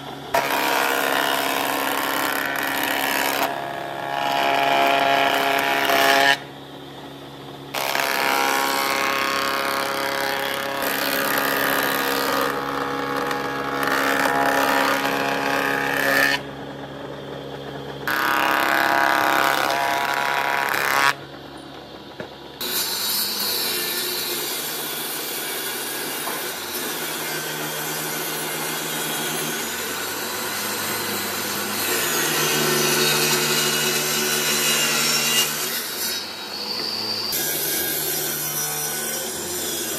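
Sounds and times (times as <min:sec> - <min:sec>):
table saw motor hum: 0:00.0 - 0:39.9
thickness planer whine: 0:00.0 - 0:39.9.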